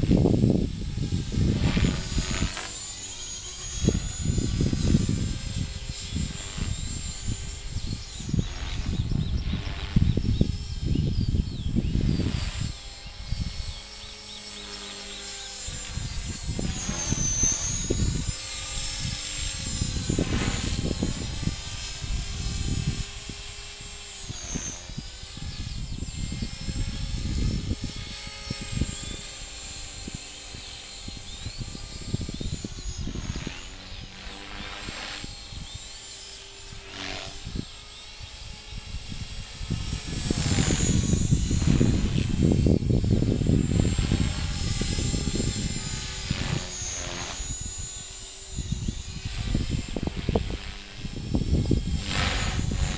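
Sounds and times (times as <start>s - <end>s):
electric model helicopter whining: 0.0s - 52.9s
wind rumbling on microphone: 0.0s - 52.9s.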